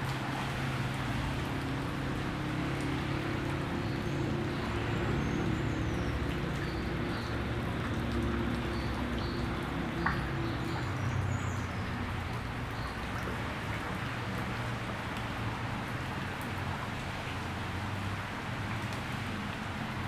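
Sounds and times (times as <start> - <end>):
rain pattering on puddle: 0.0 - 20.0.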